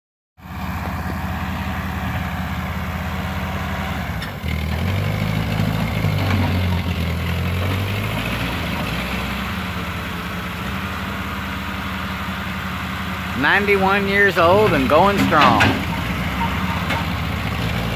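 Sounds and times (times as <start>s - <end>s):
tractor engine running: 0.4s - 17.9s.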